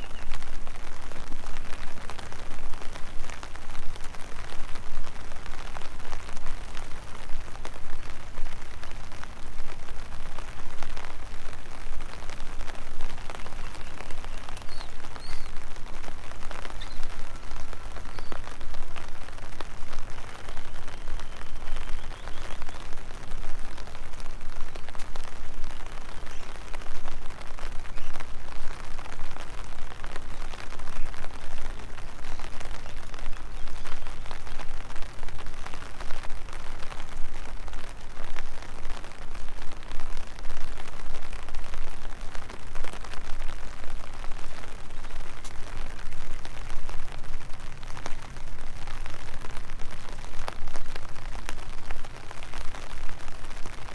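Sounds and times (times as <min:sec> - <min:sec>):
rain drops crackling: 0:00.0 - 0:53.9.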